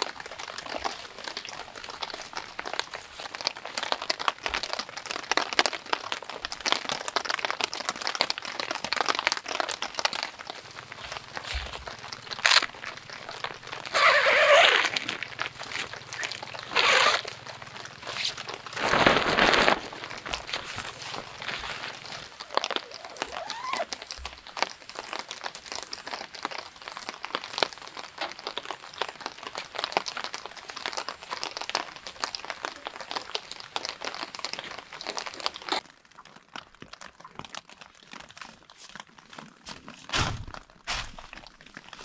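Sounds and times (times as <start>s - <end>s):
tent fabric crinkling and rustling: 0.0s - 42.0s.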